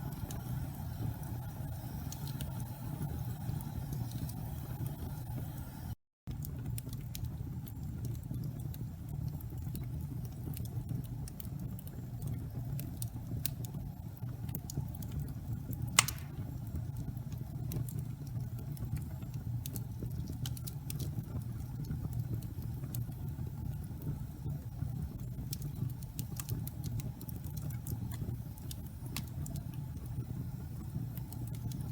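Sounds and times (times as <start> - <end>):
fire popping: 0.0 - 31.9
wood fire crackling: 0.0 - 31.9.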